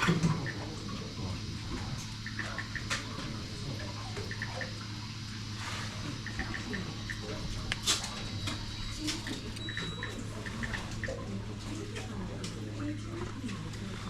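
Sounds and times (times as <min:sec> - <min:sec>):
low hum in boat cabin: 0:00.0 - 0:14.0.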